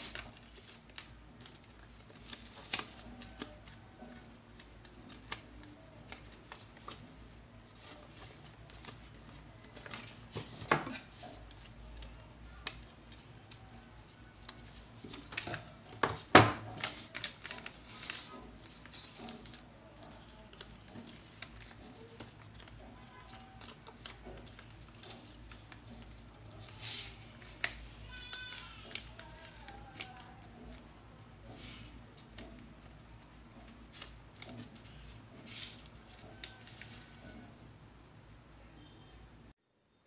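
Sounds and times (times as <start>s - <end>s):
paper and fabric rustling: 0.0s - 37.6s.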